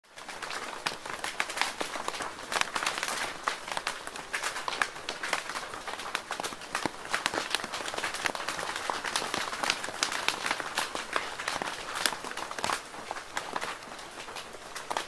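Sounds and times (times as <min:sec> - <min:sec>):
rain falling: 0:00.0 - 0:15.0
sharp raindrop impacts: 0:00.2 - 0:15.0.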